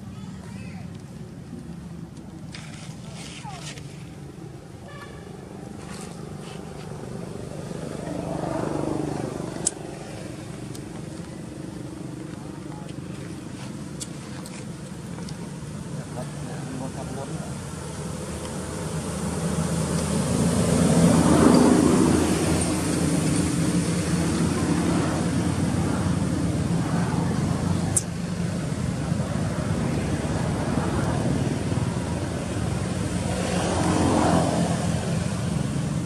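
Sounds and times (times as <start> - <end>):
vehicle engines droning: 0.0 - 36.0.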